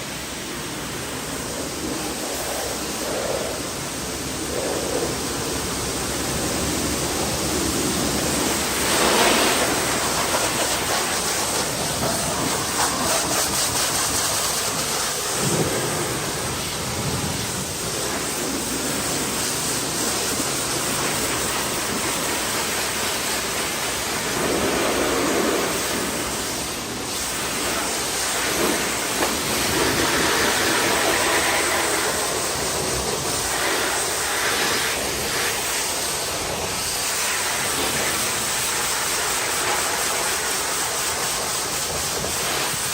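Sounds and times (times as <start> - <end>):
pressure washer spraying car: 0.0 - 42.9.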